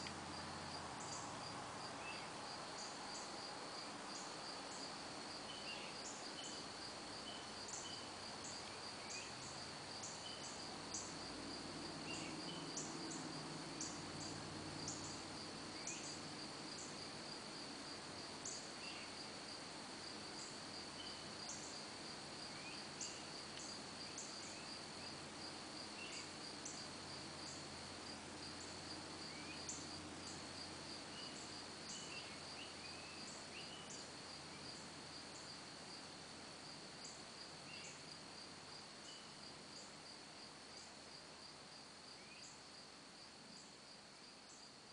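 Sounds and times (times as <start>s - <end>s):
higher insect chirps: 0.0s - 44.9s
insect trill: 0.0s - 44.9s.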